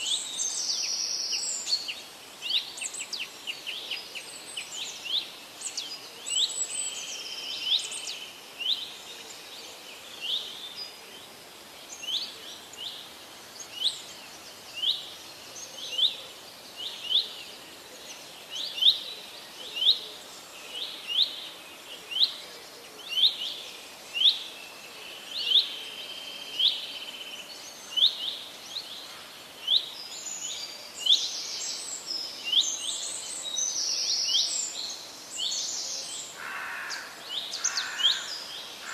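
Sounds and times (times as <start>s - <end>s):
faint background hiss: 0.0s - 38.9s.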